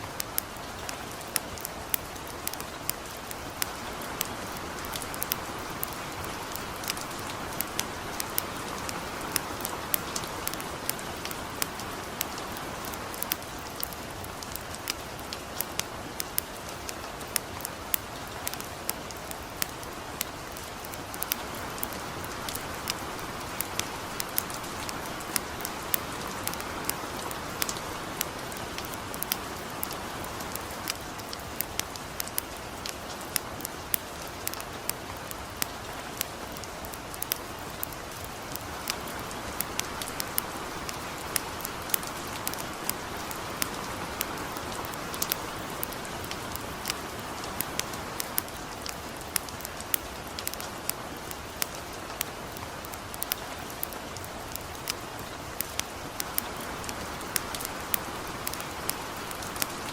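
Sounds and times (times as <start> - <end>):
campfire crackling and popping: 0.0 - 59.9
light rain hissing: 0.0 - 59.9.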